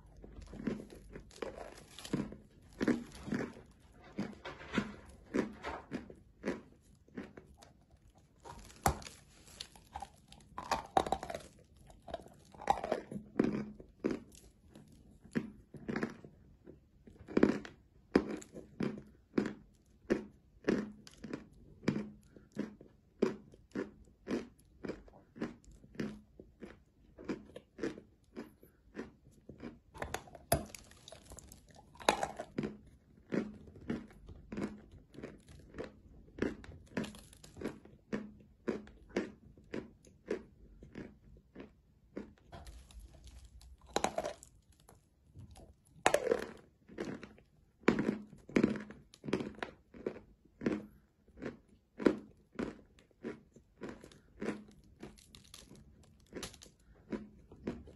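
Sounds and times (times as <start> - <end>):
chalk crunching while chewed: 0.0 - 57.9.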